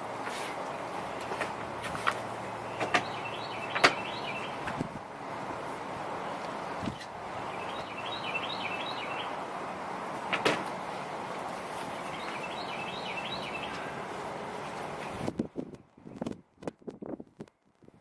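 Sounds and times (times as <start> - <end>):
wind blowing: 0.0 - 18.0
songbird singing: 0.6 - 15.2.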